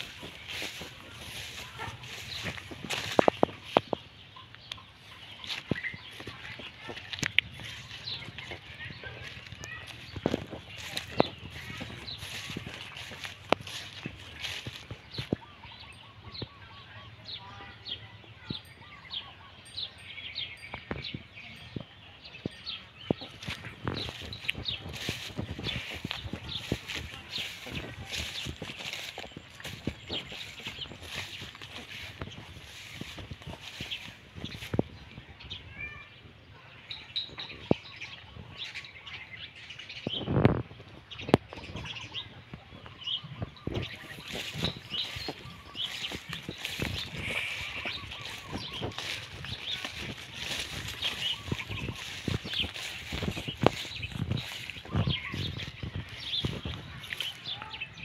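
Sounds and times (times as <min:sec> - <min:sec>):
footsteps through long grass: 0:00.0 - 0:16.6, 0:22.4 - 0:36.1, 0:37.1 - 0:58.0
bird chirping: 0:00.0 - 0:34.8, 0:41.2 - 0:58.0.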